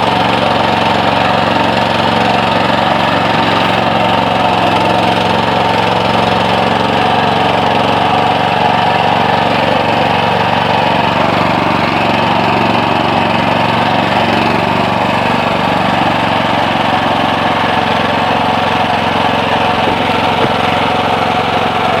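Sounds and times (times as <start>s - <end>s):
small tractor engine running: 0.0s - 22.0s.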